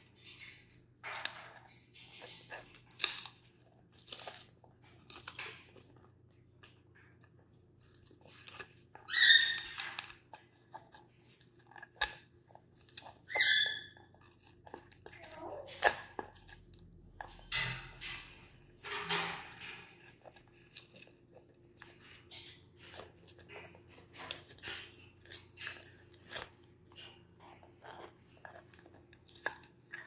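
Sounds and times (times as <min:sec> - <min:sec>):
parrot gnawing wood: 0:00.0 - 0:30.0.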